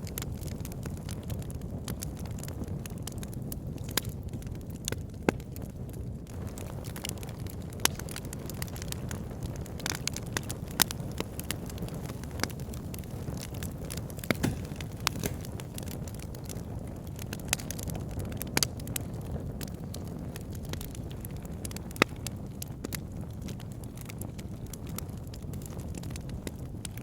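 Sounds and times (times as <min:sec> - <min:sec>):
sharp pops and snaps of fire: 0:00.0 - 0:27.0
wood fire crackling: 0:00.0 - 0:27.0.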